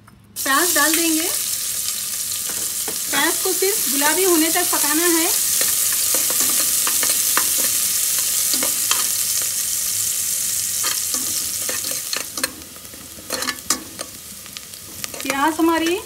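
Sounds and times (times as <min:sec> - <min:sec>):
onion sizzling in oil: 0:00.4 - 0:16.0.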